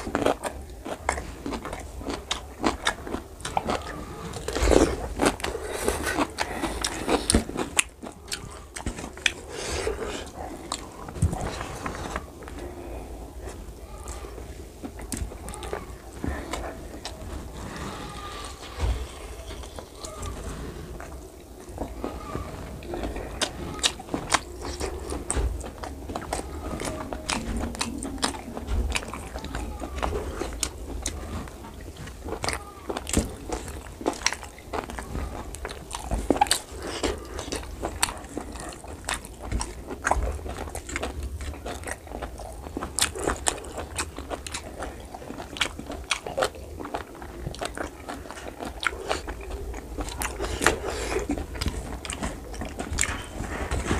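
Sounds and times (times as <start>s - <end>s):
chewing and biting: 0.0s - 53.9s.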